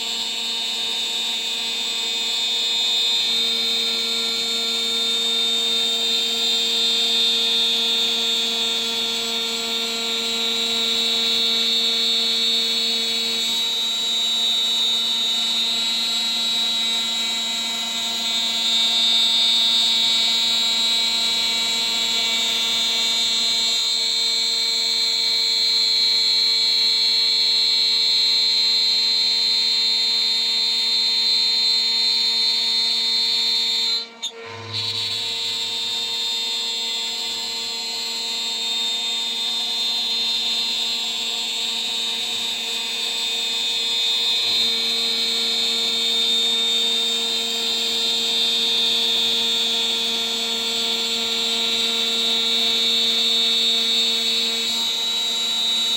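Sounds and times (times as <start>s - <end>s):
router spindle whining: 0.0s - 55.9s.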